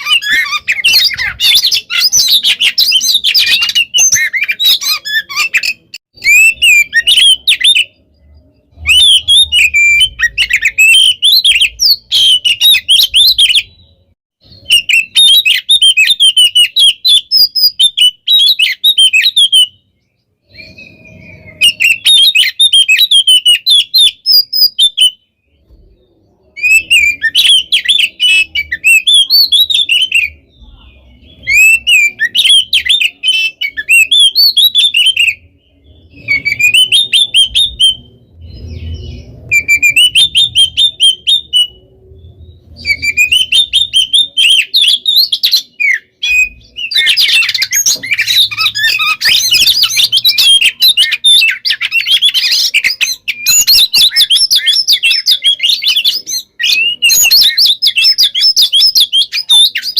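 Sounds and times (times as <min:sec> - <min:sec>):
songbird whistling and chattering: 0:00.0 - 0:59.9.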